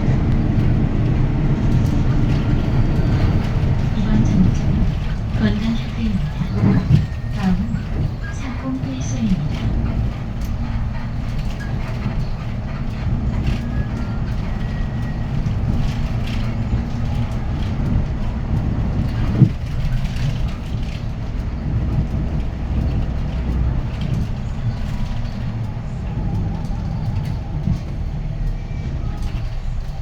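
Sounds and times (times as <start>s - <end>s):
bus diesel engine running: 0.0s - 30.0s
road noise: 0.0s - 30.0s.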